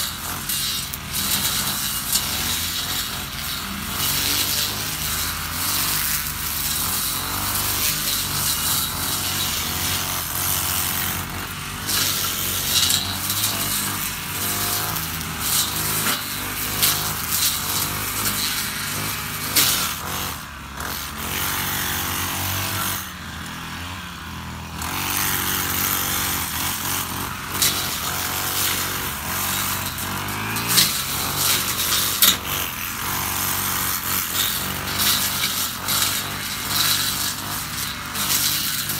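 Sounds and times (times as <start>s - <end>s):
blade ticking on grass stems: 0.0s - 20.1s, 27.5s - 38.9s
brush cutter engine high revs: 0.0s - 38.9s.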